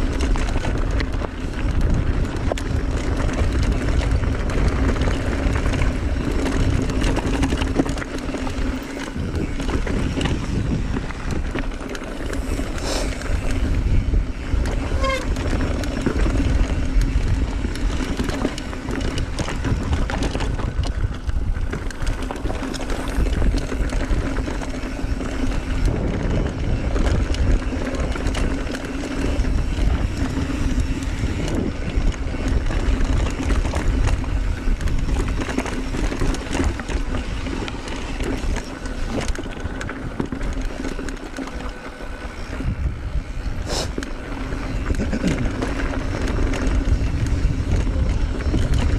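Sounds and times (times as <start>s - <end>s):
bike tyres rattling: 0.0s - 48.9s
wind rumble on microphone: 0.0s - 48.9s.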